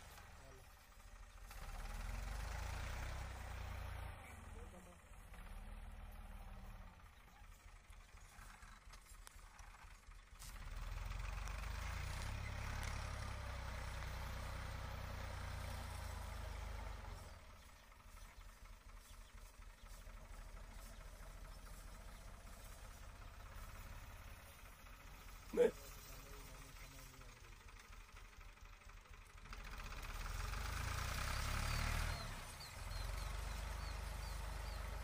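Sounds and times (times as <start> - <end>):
tractor diesel engine chugging: 0.0 - 35.0.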